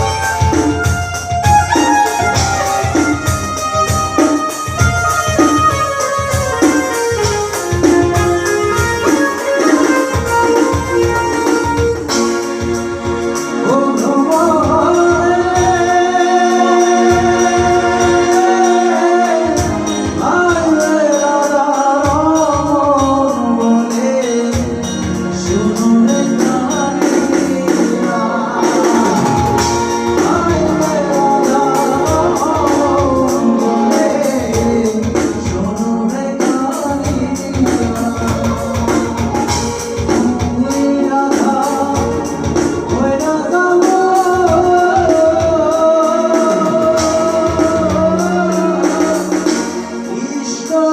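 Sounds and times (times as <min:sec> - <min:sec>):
organ-like electronic keyboard: 0:00.0 - 0:50.9
person singing long sliding notes: 0:00.0 - 0:50.9.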